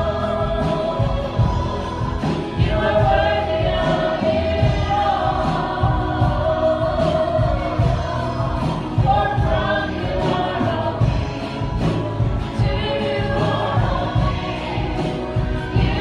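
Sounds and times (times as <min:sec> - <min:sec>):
congregation singing: 0:00.0 - 0:16.0
instrumental accompaniment with bass: 0:00.0 - 0:16.0.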